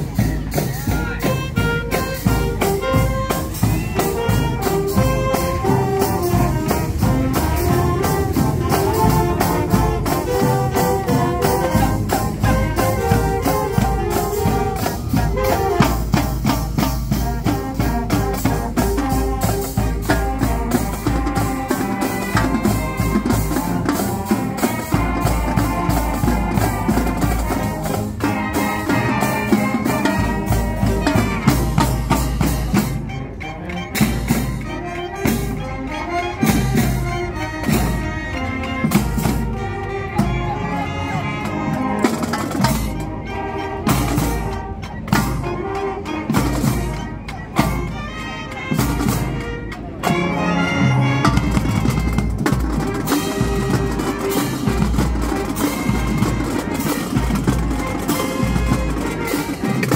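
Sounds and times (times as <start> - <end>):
marching drumline: 0.0 - 59.9
woodwinds and sousaphone: 0.0 - 59.9.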